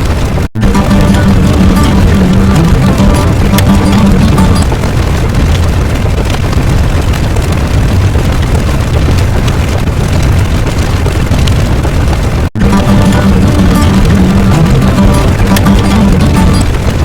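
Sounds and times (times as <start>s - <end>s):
rumbling explosion sound effect: 0.0s - 17.0s.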